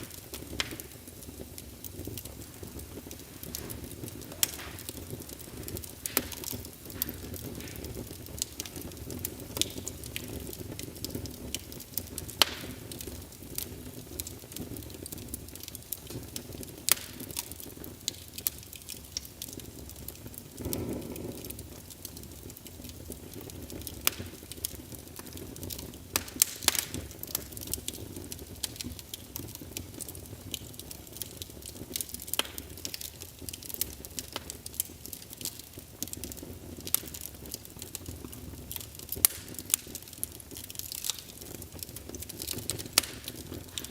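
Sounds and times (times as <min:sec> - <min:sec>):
fire pops: 0:00.0 - 0:43.9
low rush of burning flames: 0:00.0 - 0:43.9
wood fire crackling: 0:00.0 - 0:43.9.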